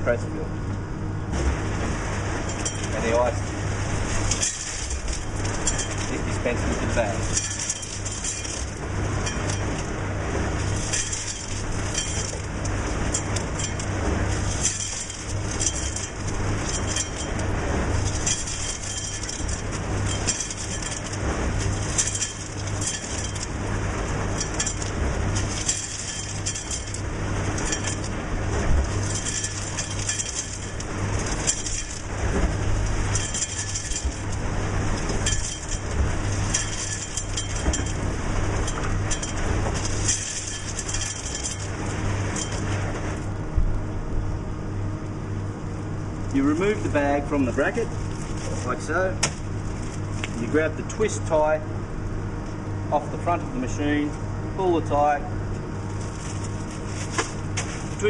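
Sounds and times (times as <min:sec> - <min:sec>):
machine low hum: 0:00.0 - 0:58.0.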